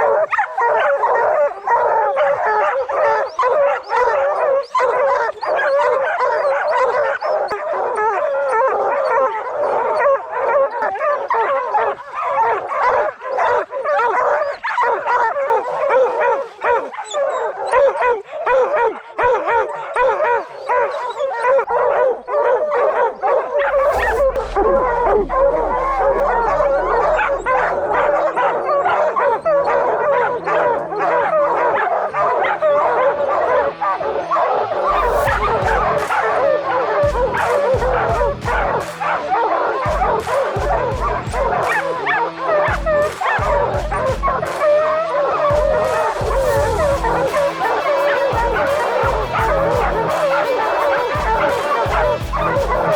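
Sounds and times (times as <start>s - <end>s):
hounds baying and barking: 0.0s - 52.9s.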